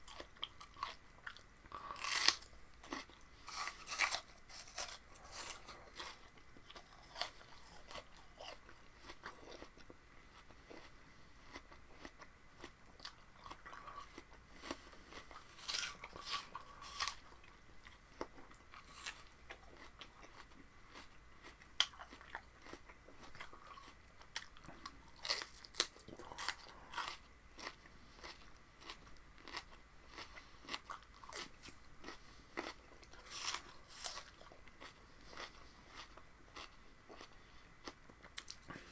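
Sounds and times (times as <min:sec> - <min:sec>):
person crunching raw vegetables: 0:00.0 - 0:38.9.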